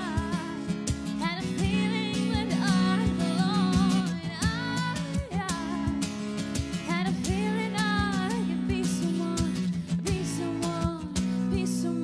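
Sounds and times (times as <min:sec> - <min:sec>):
strummed acoustic guitar: 0:00.0 - 0:12.0
woman singing: 0:00.0 - 0:12.0.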